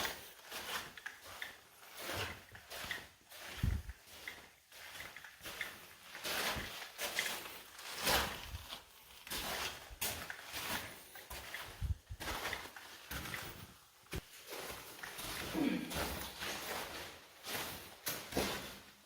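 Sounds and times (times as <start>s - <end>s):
footsteps on gravel trail: 0.0s - 18.8s.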